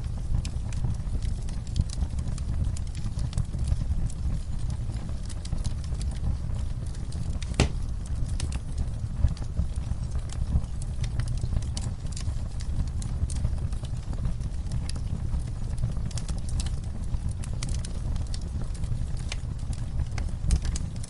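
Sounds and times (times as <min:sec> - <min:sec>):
campfire rumble: 0:00.0 - 0:21.0
wood crackling and popping: 0:00.0 - 0:21.0.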